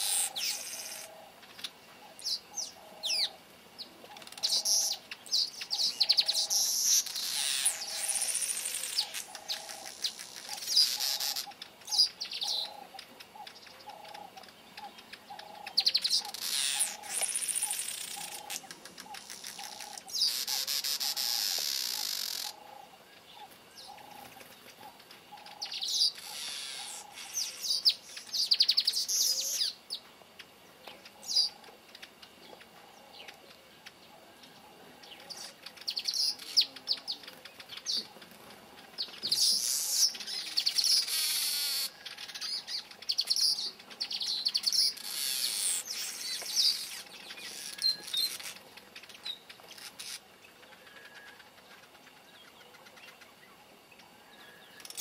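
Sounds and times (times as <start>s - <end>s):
birds buzzy twittering: 0.0s - 55.0s.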